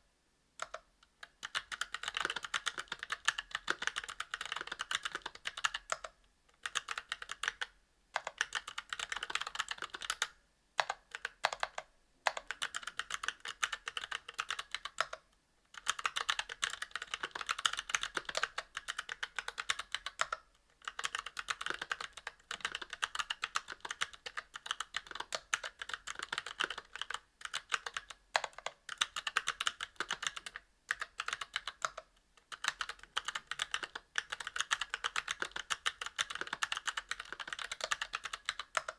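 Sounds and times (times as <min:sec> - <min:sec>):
mechanical keyboard typing: 0:00.6 - 0:15.2, 0:15.8 - 0:38.9.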